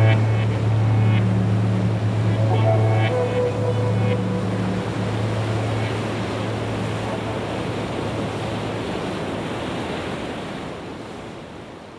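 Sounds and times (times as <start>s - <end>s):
steady rushing noise: 0.0s - 9.6s.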